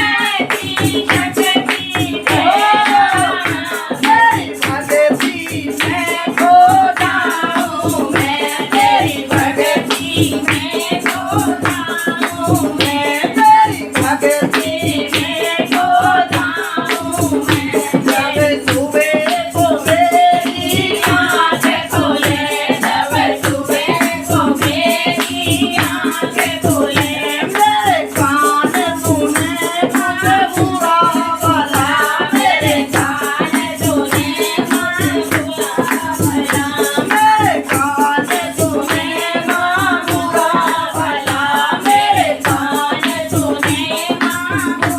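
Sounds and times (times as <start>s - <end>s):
hand percussion beat: 0.0s - 44.9s
person singing devotional song: 0.0s - 44.9s.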